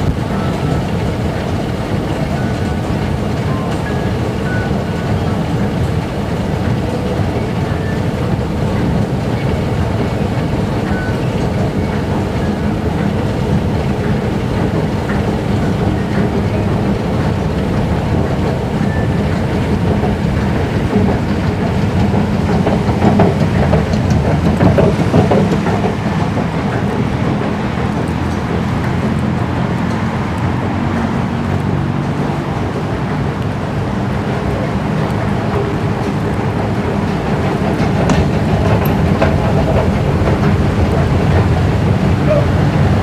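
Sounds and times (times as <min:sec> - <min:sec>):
escalator machinery rumbling: 0:00.0 - 0:43.0
rattle of moving steps: 0:00.0 - 0:43.0.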